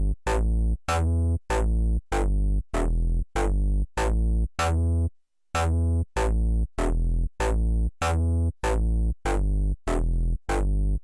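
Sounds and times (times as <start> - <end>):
deep synthesizer bass notes: 0.0 - 11.0.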